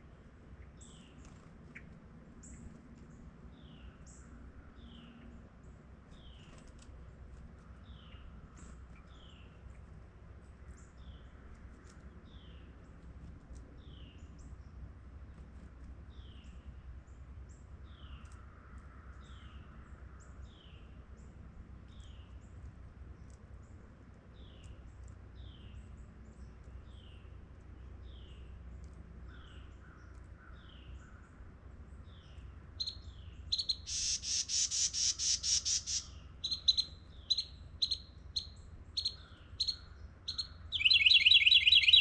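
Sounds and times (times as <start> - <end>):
low outdoor background rumble: 0.0 - 42.0.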